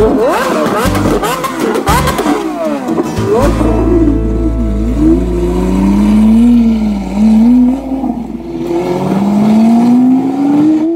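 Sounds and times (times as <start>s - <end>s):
sports car engine revving: 0.0s - 10.9s.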